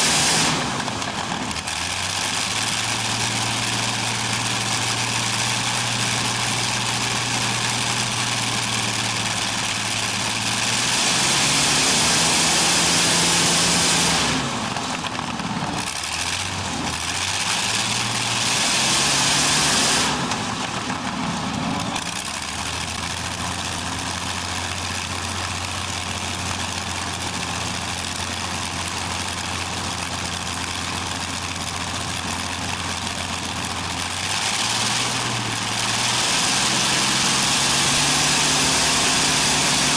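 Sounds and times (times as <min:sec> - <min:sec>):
aircraft engine revving: 0:00.0 - 0:39.9.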